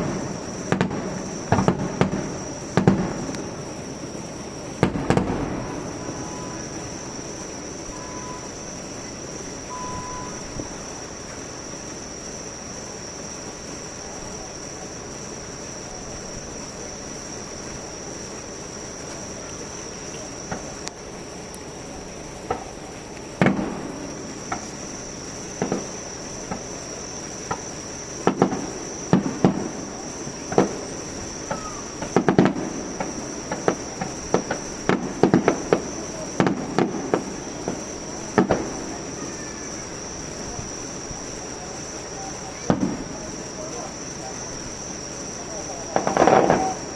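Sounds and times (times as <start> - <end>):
fireworks bangs: 0.0 - 46.9
insects chirring: 0.0 - 46.9.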